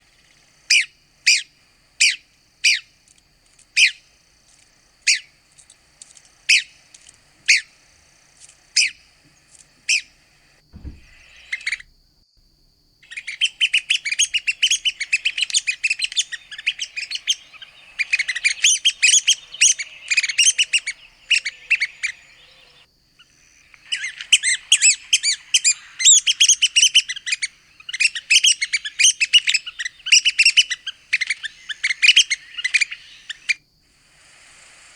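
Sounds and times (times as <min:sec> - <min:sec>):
woodpecker calling: 0:00.0 - 0:12.0, 0:13.0 - 0:34.9
woodpecker chattering: 0:00.1 - 0:11.9, 0:13.0 - 0:34.8.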